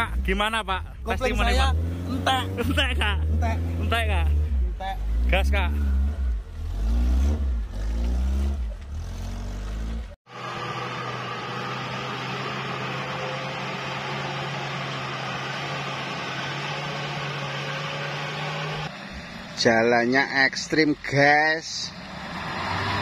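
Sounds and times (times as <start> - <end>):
engine revving with low rumble: 0.0 - 19.6.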